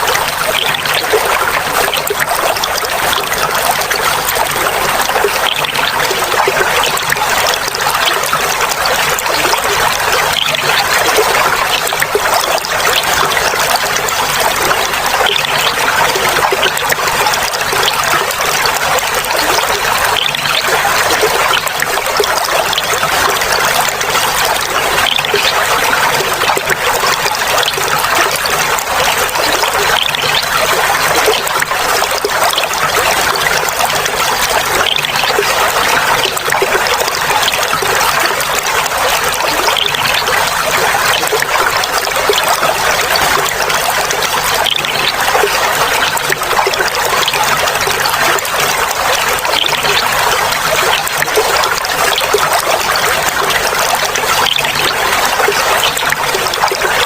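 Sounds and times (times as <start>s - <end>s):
water trickling and babbling: 0.0s - 57.0s.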